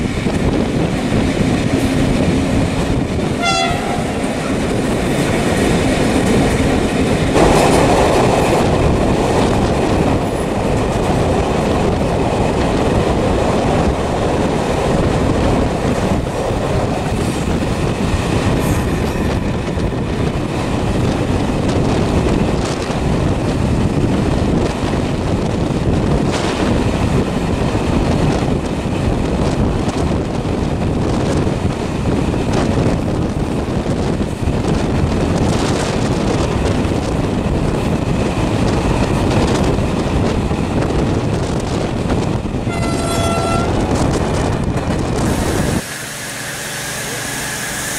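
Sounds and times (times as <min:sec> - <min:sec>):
vehicle in motion rumbling: 0:00.0 - 0:45.8.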